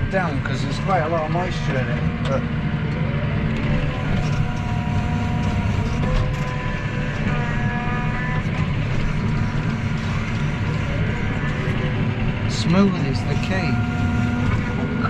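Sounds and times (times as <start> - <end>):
faint whining tones: 0.0 - 15.0
tractor engine under load: 0.0 - 15.0.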